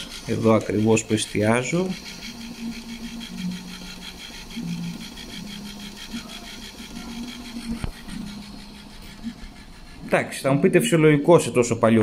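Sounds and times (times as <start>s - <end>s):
motor hum: 0.0s - 12.0s
tape recorder rewinding whir: 0.0s - 12.0s.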